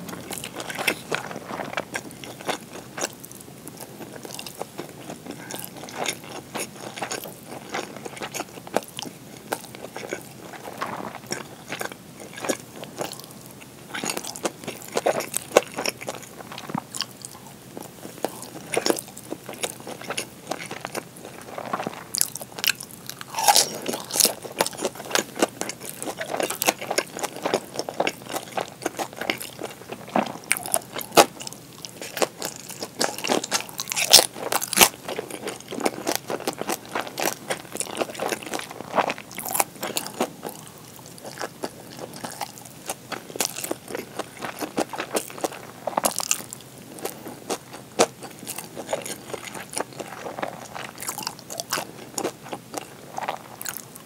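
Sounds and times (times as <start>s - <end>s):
crunchy wet chewing: 0.0s - 54.0s.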